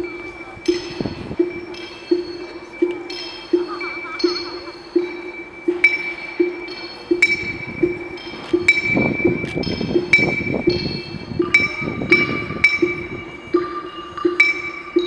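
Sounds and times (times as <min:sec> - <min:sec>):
bell-like electronic chimes: 0:00.0 - 0:15.0.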